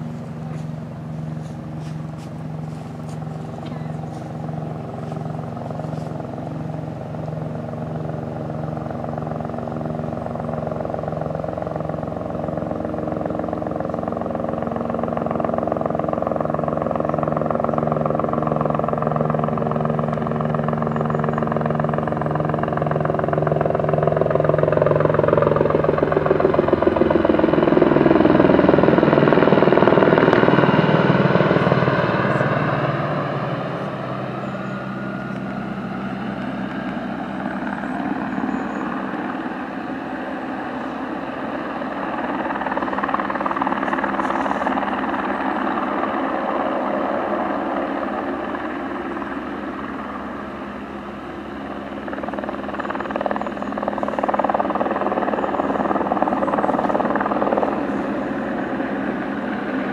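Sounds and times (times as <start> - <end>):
helicopter flying past: 0.0 - 59.9.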